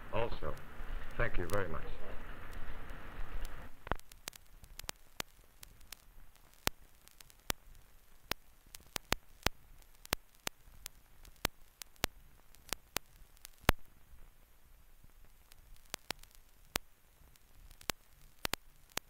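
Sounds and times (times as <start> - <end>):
faint hiss: 0.0 - 19.0
film crackle clicks and pops: 0.0 - 19.0.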